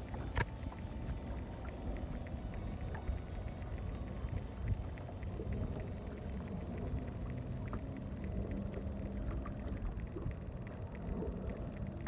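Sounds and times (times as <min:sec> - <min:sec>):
faint quick ticking: 0:00.0 - 0:12.0.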